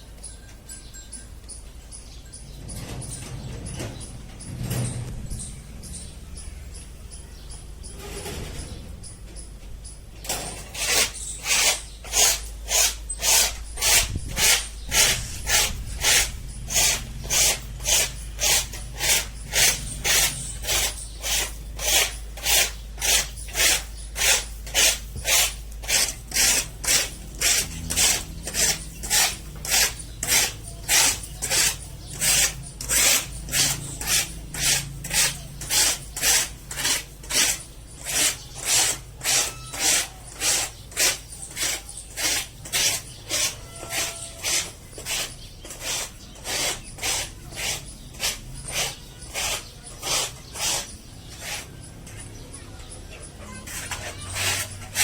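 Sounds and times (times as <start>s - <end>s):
rhythmic rasping strokes: 0.0s - 55.0s.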